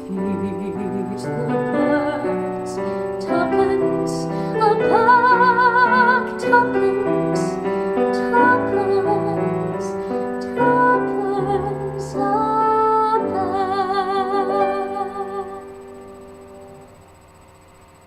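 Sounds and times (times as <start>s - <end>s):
person singing ballad with vibrato: 0.0s - 16.8s
piano chords: 0.0s - 17.2s.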